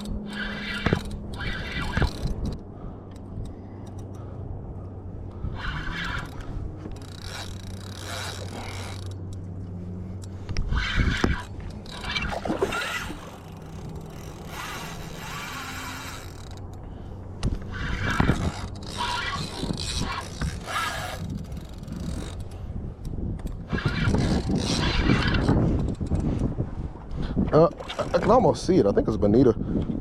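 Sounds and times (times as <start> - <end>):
fishing reel being cranked: 0.0 - 4.2, 5.5 - 9.4, 10.2 - 16.8, 17.6 - 26.5, 27.7 - 28.4
steady low hum: 0.0 - 28.1.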